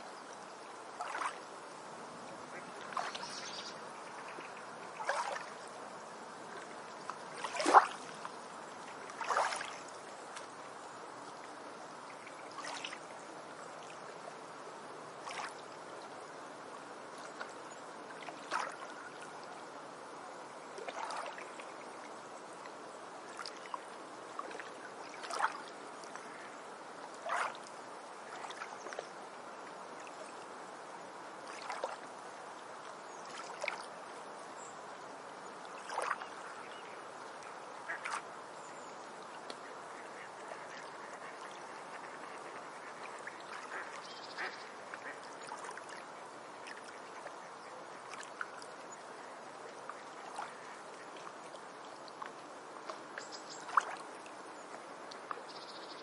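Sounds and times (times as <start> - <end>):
water washing on beach: 0.0 - 56.0.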